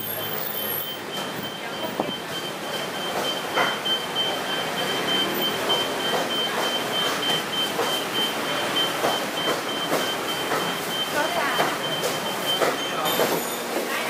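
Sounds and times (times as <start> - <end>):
high-pitched electronic beep: 0.0 - 13.6
background hubbub: 0.0 - 14.0.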